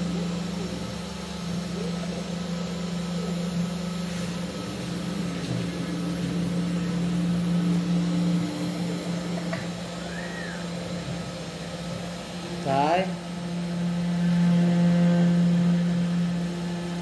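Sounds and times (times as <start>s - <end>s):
machine motors humming: 0.0s - 17.0s.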